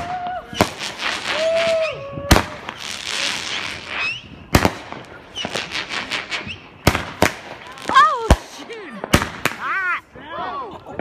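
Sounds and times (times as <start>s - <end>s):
loud firework bangs: 0.0s - 9.7s
fireworks crackling: 0.0s - 11.0s.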